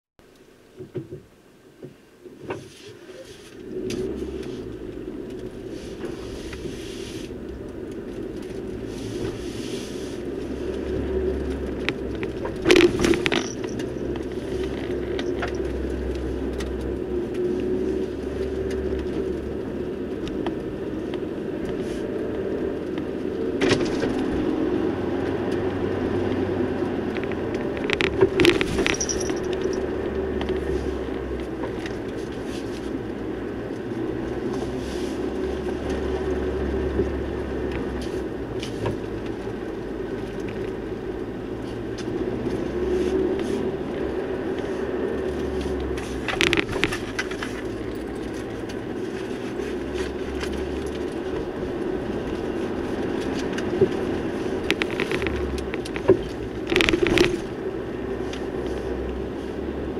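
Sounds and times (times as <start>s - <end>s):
vehicle engine and road noise: 0.2s - 59.9s.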